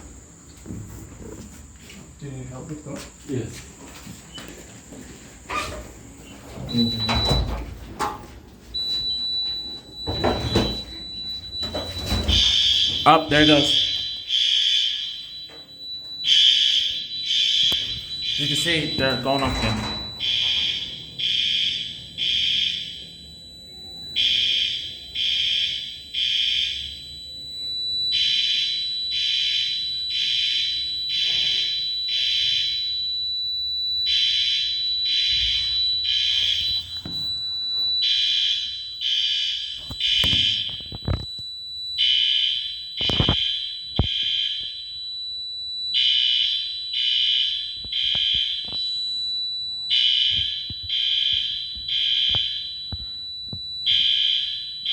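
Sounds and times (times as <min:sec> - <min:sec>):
fire alarm horn beeps: 0:05.4 - 0:54.9.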